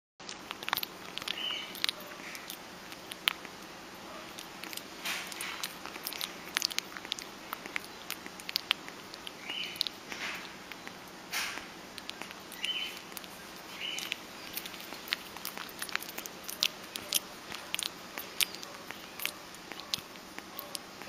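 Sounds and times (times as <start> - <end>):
bat eating with wet smacking: 0.2 - 21.0.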